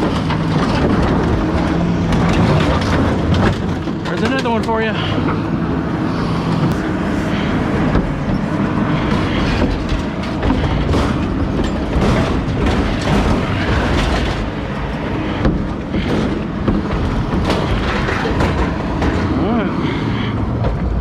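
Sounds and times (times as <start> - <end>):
metal clattering and knocking: 0.0 - 19.7
heavy machinery rumble: 0.0 - 21.0.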